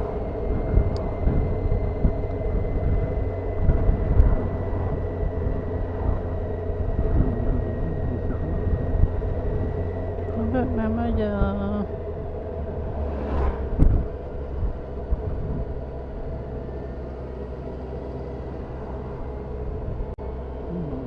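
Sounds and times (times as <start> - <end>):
motorcycle engine hum: 0.0 - 21.0
wind and road rumble: 0.0 - 21.0.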